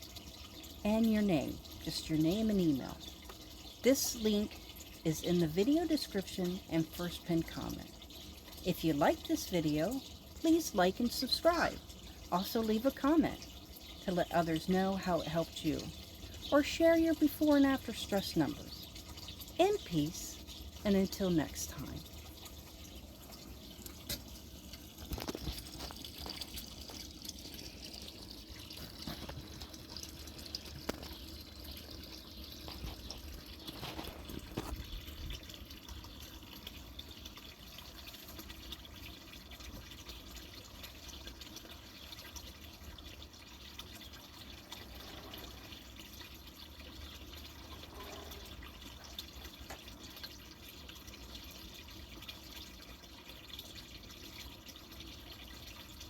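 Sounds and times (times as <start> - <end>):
water dripping: 0.0 - 56.0
water fountain trickling: 0.0 - 56.0.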